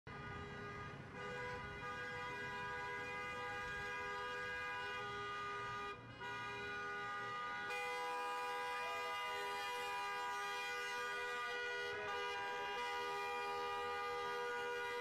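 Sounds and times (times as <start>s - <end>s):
car horns blaring: 0.1s - 15.0s.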